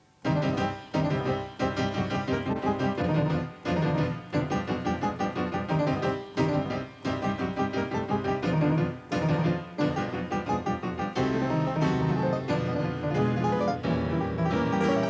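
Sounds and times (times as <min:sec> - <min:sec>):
piano-like keyboard playing quick notes: 0:00.2 - 0:15.0.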